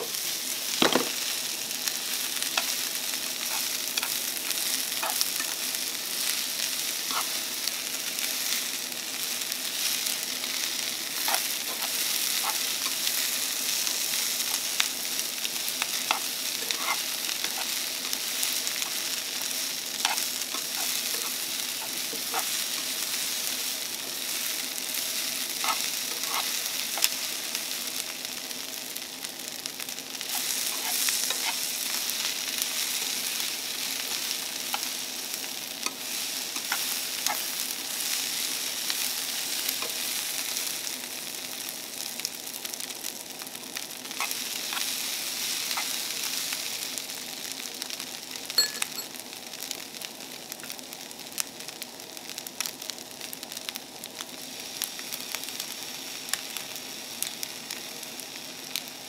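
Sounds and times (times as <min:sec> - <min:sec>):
rice sizzling in a frying pan: 0:00.0 - 0:59.0.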